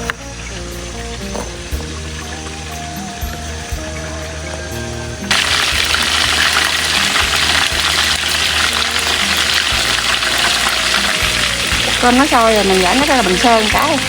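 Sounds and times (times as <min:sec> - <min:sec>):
chicken deep-frying in oil: 0:00.0 - 0:14.0.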